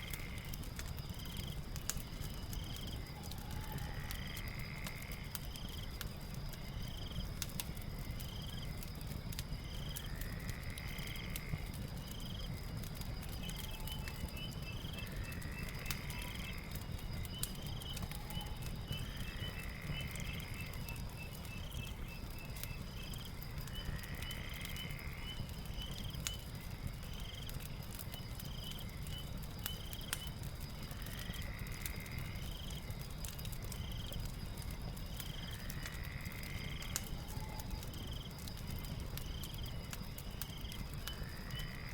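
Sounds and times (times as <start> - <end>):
crickets trilling: 0.0 - 41.9
fireplace crackling: 0.0 - 41.9
insect call: 0.0 - 41.9
insect chirps: 0.0 - 41.9.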